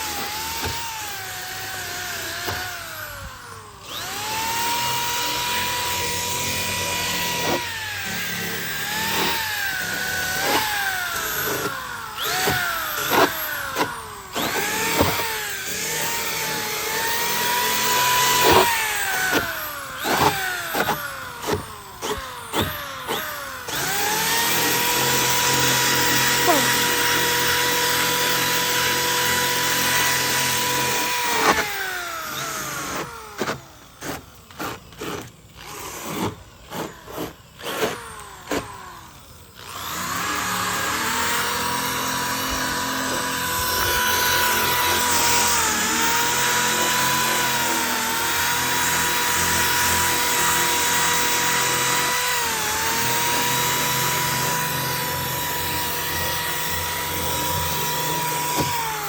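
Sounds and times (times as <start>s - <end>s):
power tool motor whining: 0.0s - 59.0s.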